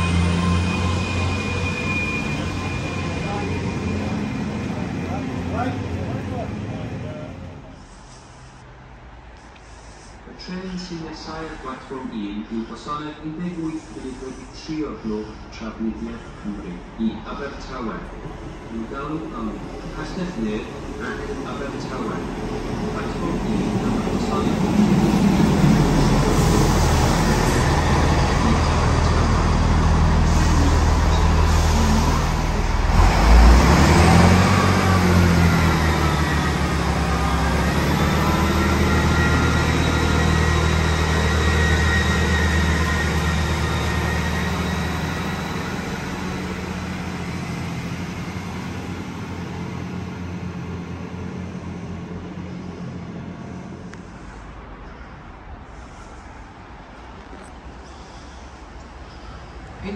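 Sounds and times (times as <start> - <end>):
diesel train engines accelerating: 0.0 - 59.9.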